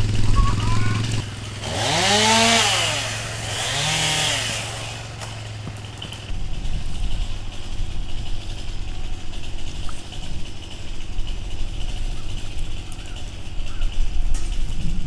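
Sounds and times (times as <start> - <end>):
atv engine idling: 0.0 - 2.4, 5.0 - 15.0.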